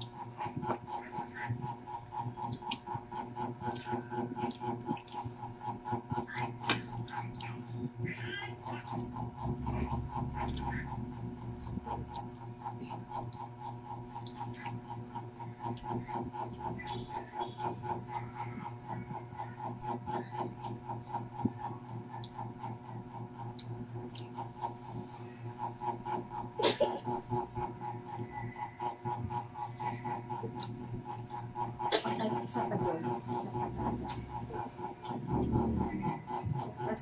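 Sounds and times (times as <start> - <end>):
pulsing mechanical hum: 0.0 - 37.0
chewing: 0.4 - 26.4, 27.3 - 31.9, 33.2 - 36.8.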